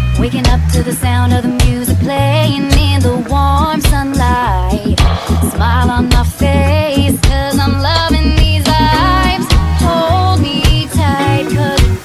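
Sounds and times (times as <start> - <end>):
background music with bass beat: 0.0 - 12.0.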